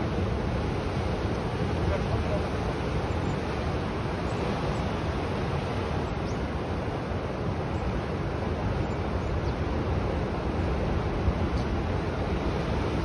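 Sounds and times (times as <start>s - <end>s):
rough sea surf breaking: 0.0s - 13.0s.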